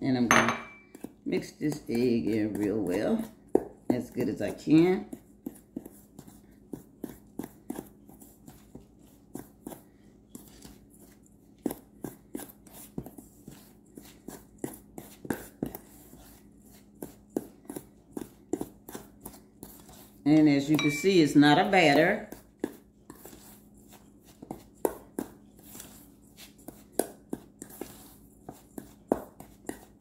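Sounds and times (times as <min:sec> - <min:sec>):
utensil scraping a mixing bowl: 0:00.9 - 0:09.8, 0:10.4 - 0:30.0.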